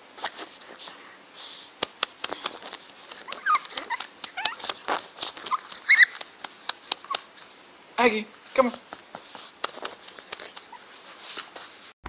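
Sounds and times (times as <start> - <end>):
paws scratching cushion: 0.0 - 7.6, 8.4 - 12.0
puppy whining: 0.1 - 7.6, 9.1 - 11.8.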